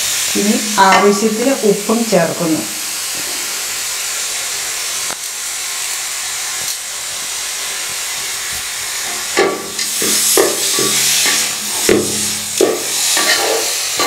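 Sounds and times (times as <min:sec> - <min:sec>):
beef sizzling in a pot: 0:00.0 - 0:14.0.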